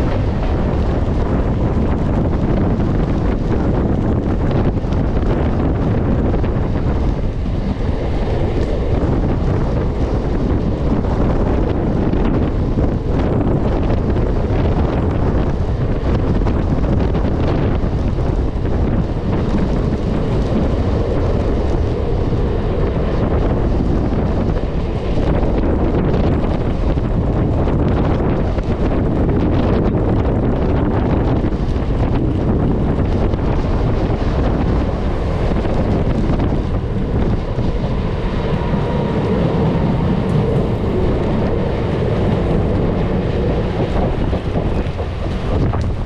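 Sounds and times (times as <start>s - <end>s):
electric train running: 0.0s - 46.0s
wind on microphone: 0.0s - 46.0s.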